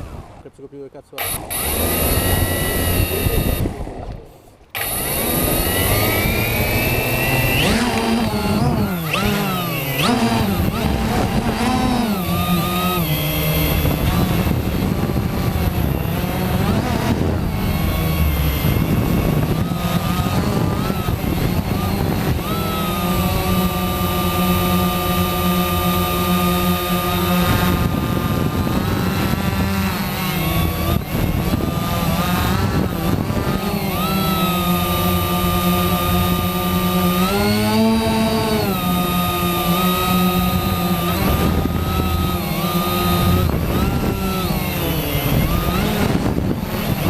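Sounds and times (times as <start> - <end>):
drone propellers buzzing: 0.0 - 47.0
wind rushing over camera: 1.2 - 47.0.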